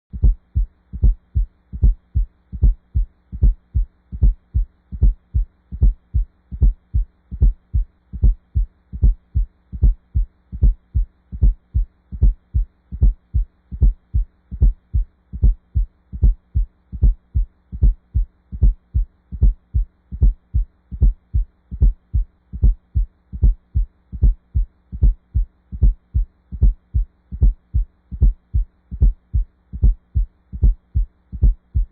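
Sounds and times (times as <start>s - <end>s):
heartbeat with gallop: 0.1s - 31.9s.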